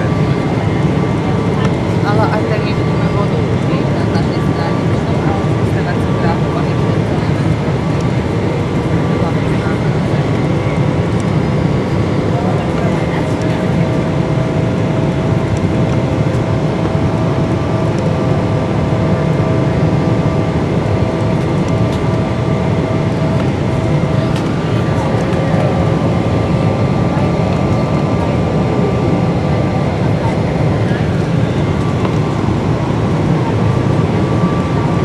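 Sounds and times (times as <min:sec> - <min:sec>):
airflow and engine rumble: 0:00.0 - 0:35.0
steady humming tones: 0:00.0 - 0:35.0.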